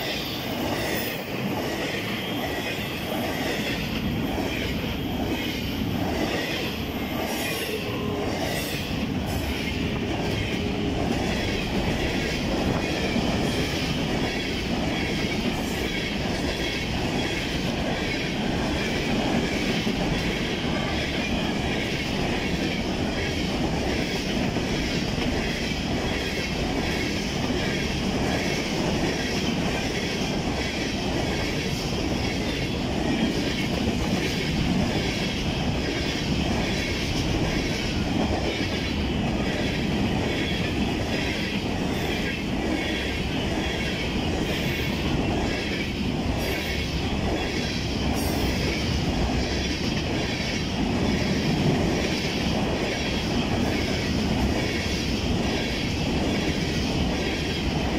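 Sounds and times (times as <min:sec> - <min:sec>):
freight train cars rolling past: 0:00.0 - 0:57.9
steel wheels on rails: 0:00.0 - 0:57.9.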